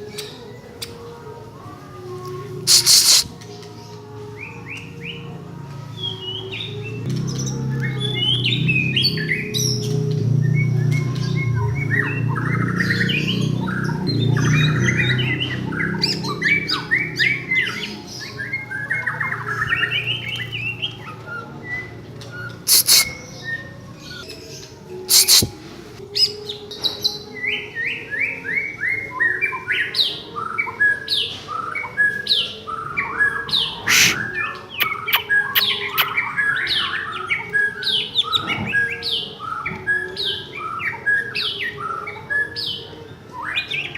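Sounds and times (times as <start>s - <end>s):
bird song with chirps and trills: 0.0s - 43.9s.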